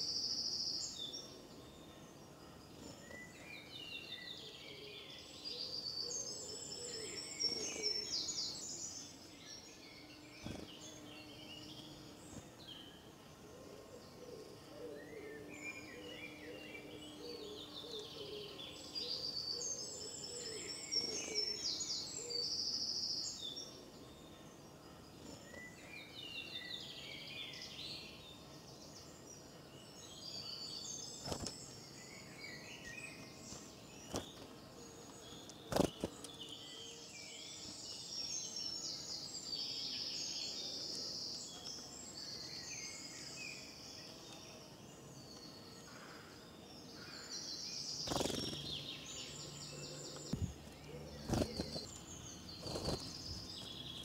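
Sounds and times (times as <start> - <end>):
birds singing and chirping: 0.0 - 54.0.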